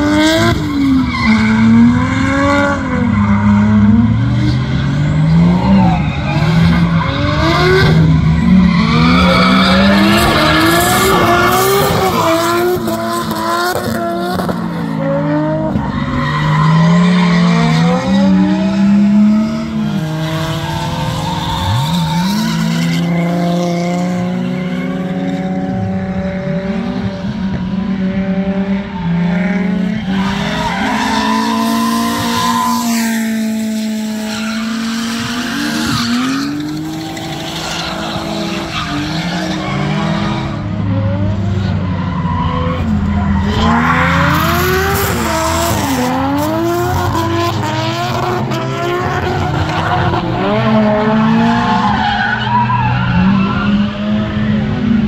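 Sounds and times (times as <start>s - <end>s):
tyres skidding: 0.0s - 27.7s, 28.8s - 54.8s
car engine revving: 0.0s - 55.0s.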